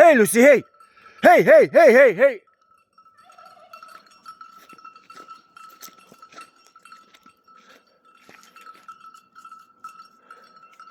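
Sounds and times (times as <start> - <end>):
goat bells clinking: 0.0 - 10.9.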